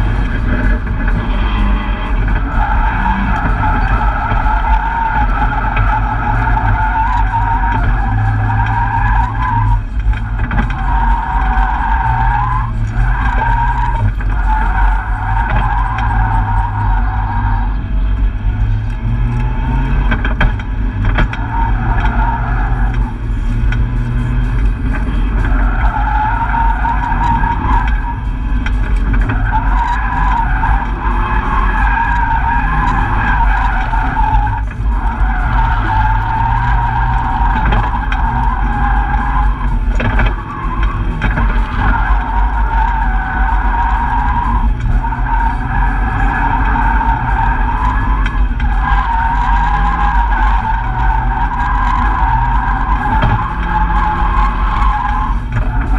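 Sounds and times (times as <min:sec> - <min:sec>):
car engine at high revs: 0:00.0 - 0:55.9
tyres squealing: 0:00.2 - 0:17.8, 0:23.8 - 0:55.9.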